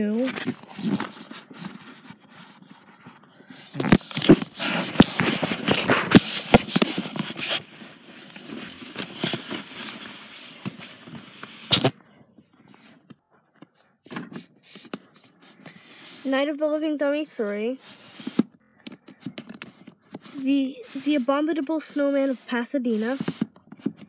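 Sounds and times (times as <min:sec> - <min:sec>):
books scraping and rustling: 0:00.0 - 0:16.4, 0:17.4 - 0:24.0
microphone handling rubbing: 0:00.0 - 0:16.5, 0:17.4 - 0:24.0.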